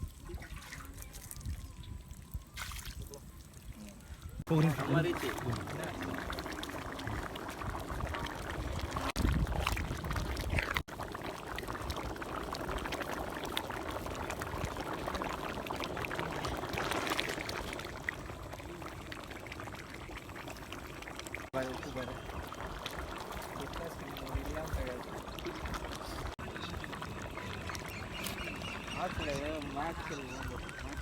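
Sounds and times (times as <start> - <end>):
stew cooking in a pot: 0.0 - 31.0.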